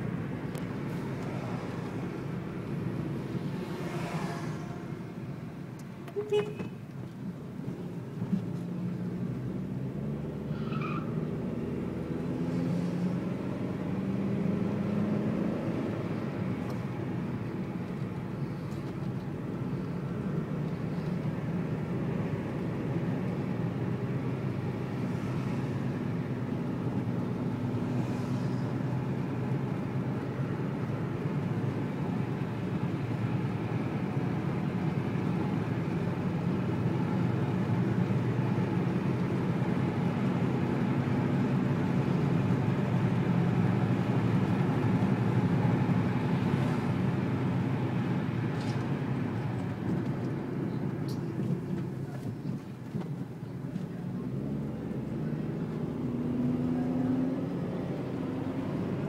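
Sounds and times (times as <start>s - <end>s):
car engine and tyre hum: 0.0s - 59.0s.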